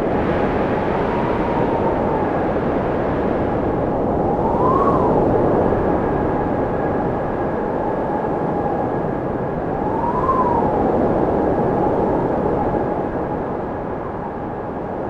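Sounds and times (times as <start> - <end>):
wind whistling: 0.0 - 15.0.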